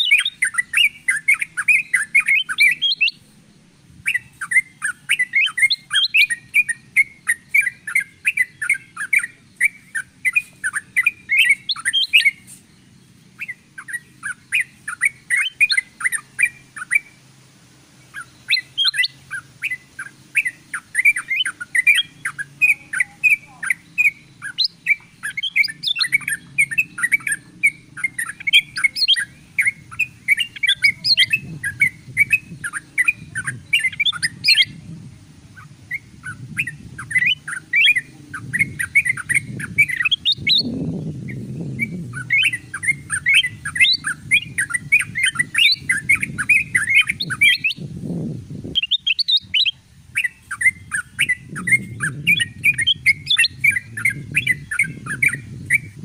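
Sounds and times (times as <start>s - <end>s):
birds chirping and chattering: 0.0s - 56.0s.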